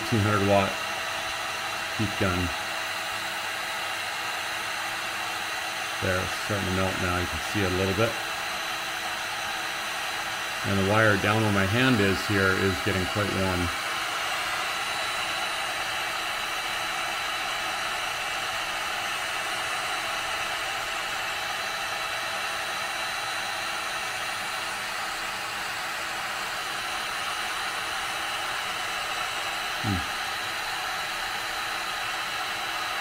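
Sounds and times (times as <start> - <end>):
heat gun blowing: 0.0 - 33.0.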